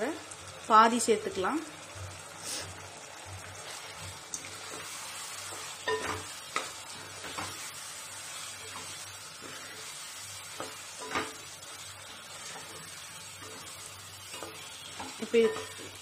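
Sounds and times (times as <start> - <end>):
chicken sizzling: 0.0 - 16.0.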